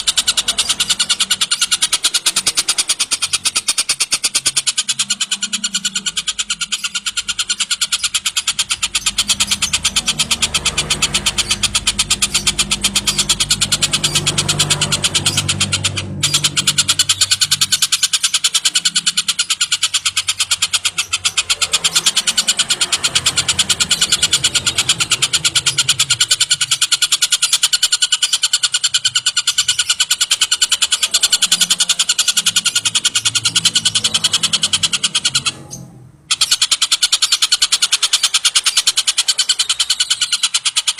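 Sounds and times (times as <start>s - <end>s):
kingfisher chattering trill: 0.0s - 40.9s.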